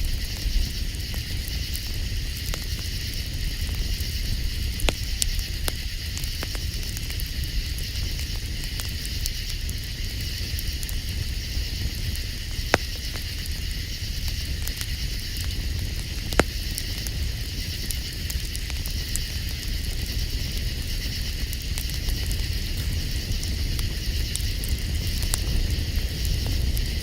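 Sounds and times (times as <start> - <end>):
campfire crackling: 0.0 - 27.0
loud fire pops: 0.0 - 27.0.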